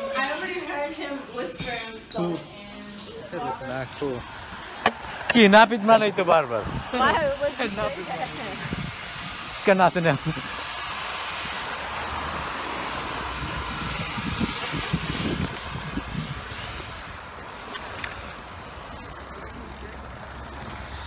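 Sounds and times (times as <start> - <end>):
road noise: 0.0 - 21.0
air rush from cycling: 3.2 - 21.0.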